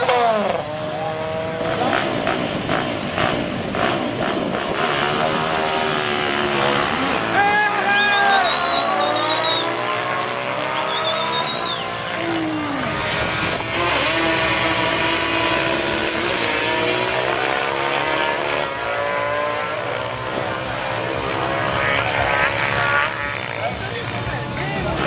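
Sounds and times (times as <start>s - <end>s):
racing engines revving: 0.0s - 25.0s.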